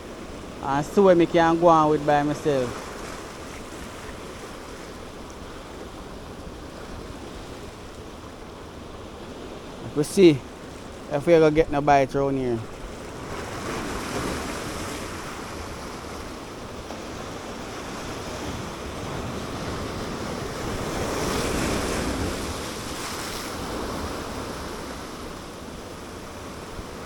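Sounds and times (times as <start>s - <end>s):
sea waves washing against rocks: 0.0s - 27.0s.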